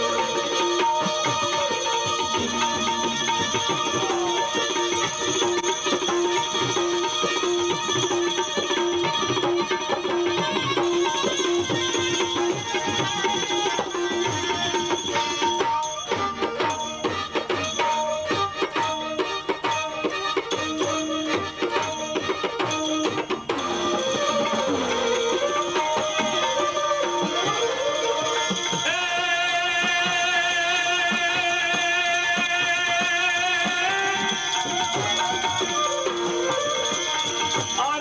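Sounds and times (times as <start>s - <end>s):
folk melody of held notes: 0.0s - 29.1s, 33.9s - 38.0s
jingling percussion: 0.0s - 38.0s.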